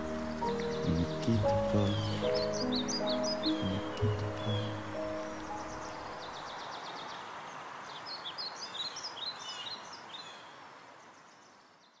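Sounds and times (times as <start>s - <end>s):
birds chirping: 0.0s - 12.0s
steady outdoor hiss: 0.0s - 12.0s.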